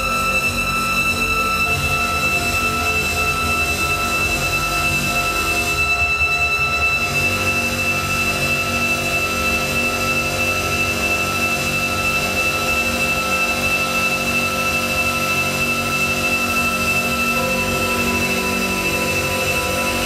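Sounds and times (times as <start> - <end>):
electronic drone of held tones: 0.0 - 20.0
high steady whistle-like tone: 0.0 - 20.0.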